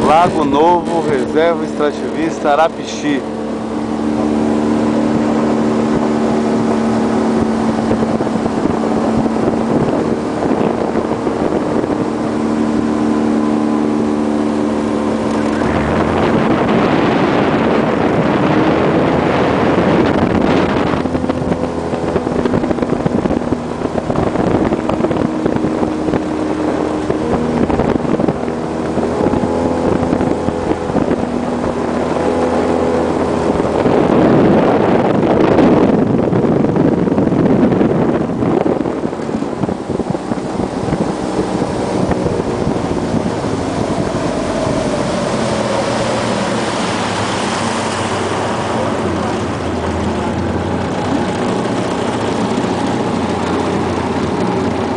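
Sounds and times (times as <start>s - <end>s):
boat motor running: 0.0s - 54.9s
rushing water: 0.0s - 54.9s
wind on microphone: 0.0s - 54.9s.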